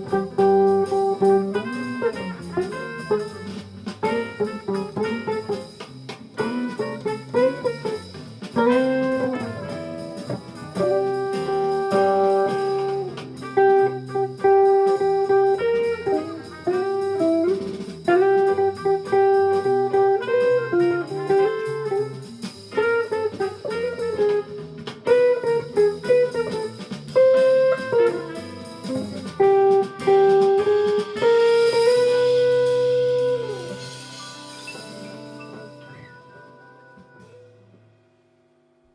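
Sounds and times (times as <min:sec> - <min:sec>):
jazz guitar melody over chords: 0:00.0 - 0:37.6.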